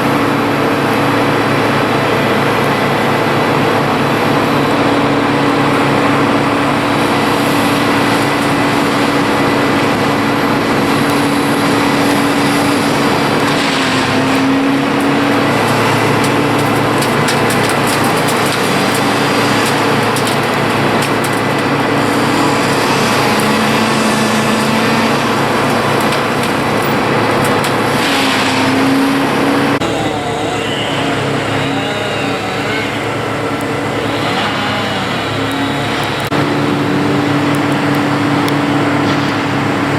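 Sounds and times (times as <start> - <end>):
broad noisy din: 0.0 - 39.9
engines running: 0.0 - 39.9.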